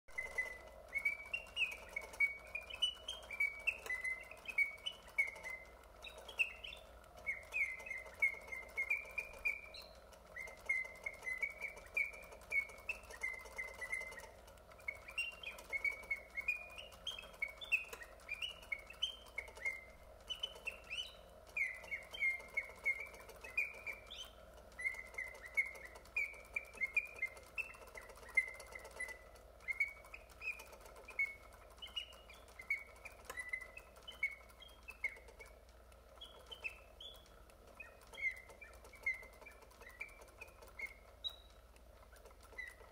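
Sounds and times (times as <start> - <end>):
mechanical bird whistling: 0.1 - 42.9.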